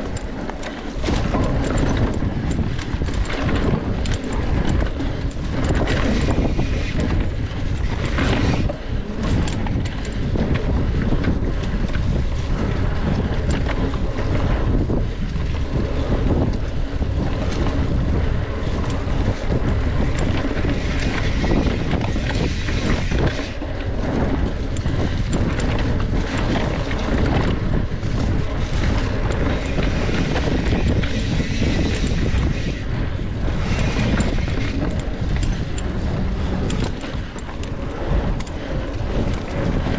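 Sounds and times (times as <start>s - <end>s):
bike rattling on dirt trail: 0.0s - 39.9s
wind buffeting microphone: 0.0s - 39.9s.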